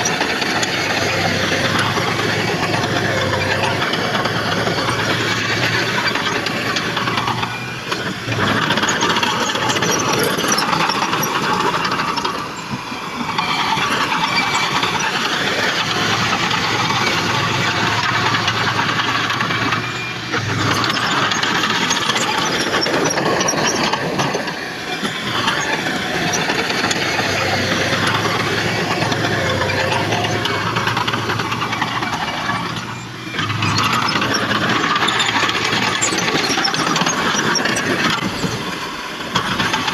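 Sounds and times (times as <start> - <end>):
diesel engine of earthmoving machinery: 0.0 - 39.9.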